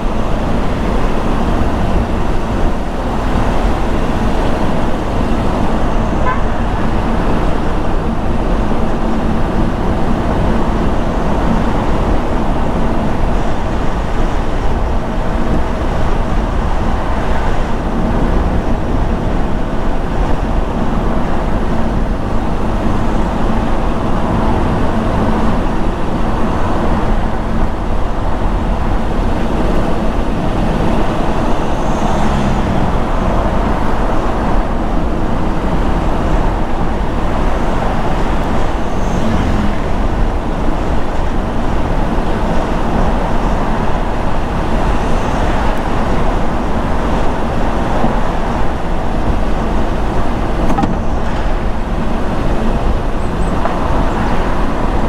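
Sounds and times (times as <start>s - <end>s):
car road noise: 0.0s - 55.0s.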